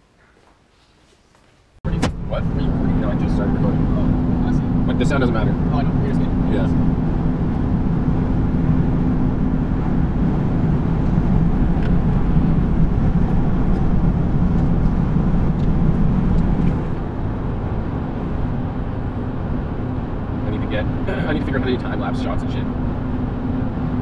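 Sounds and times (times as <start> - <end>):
car engine and road rumble: 1.8 - 24.0
low hum: 1.9 - 24.0.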